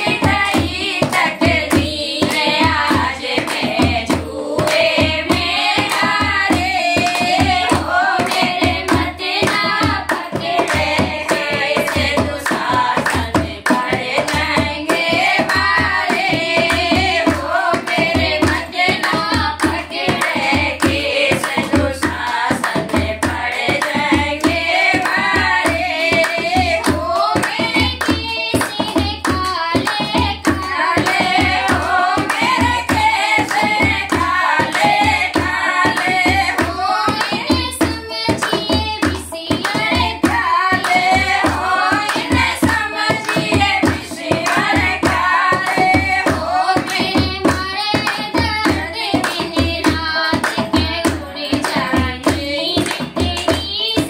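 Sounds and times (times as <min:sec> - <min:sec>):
hand drum beating: 0:00.0 - 0:54.0
hands clapping: 0:00.0 - 0:54.0
women singing devotional song: 0:00.0 - 0:54.0.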